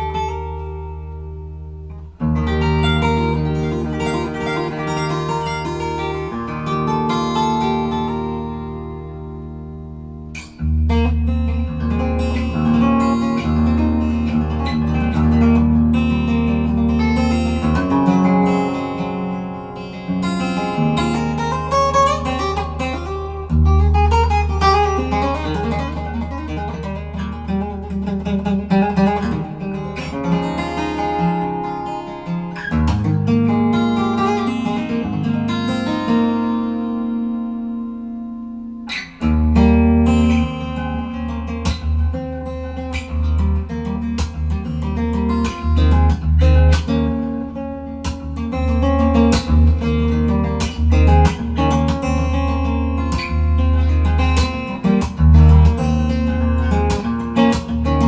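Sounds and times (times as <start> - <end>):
fingerstyle guitar: 0.0 - 58.0.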